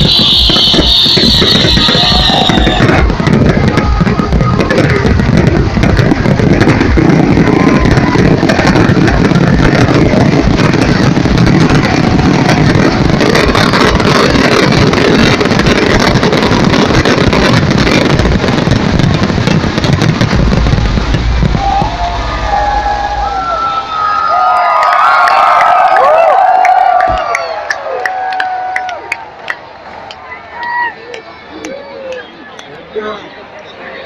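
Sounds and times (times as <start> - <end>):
fireworks bursting and crackling: 0.0 - 31.7.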